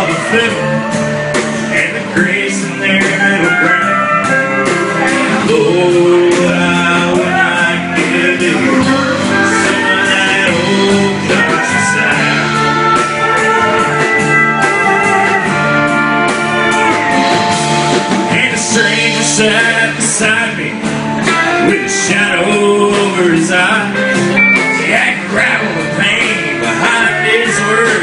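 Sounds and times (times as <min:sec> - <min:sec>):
country band playing: 0:00.0 - 0:28.0.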